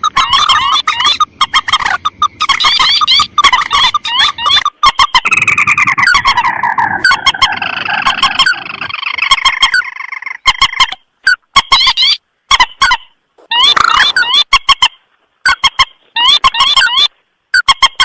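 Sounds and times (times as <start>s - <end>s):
recorded bird calls: 0.0s - 18.0s.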